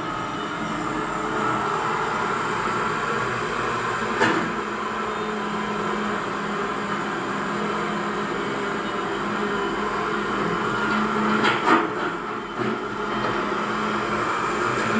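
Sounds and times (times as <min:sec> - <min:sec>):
model excavator hydraulic whine: 0:00.0 - 0:14.9.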